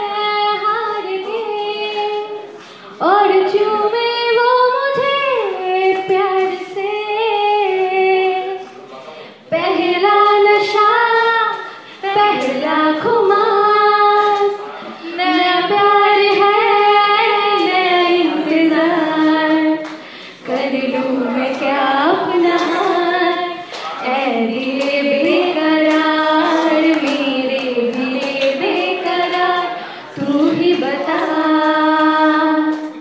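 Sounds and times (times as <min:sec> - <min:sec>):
woman singing slow melody: 0:00.0 - 0:08.7, 0:09.5 - 0:33.0.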